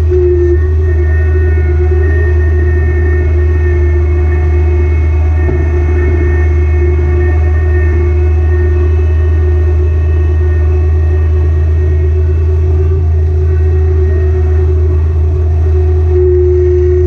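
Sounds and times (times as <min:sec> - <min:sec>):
high-pitched whine: 0:00.0 - 0:17.0
tractor diesel engine drone: 0:00.0 - 0:17.0.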